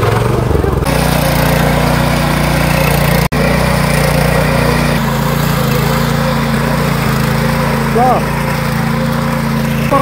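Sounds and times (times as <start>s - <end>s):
small tiller engine running: 0.0s - 10.0s.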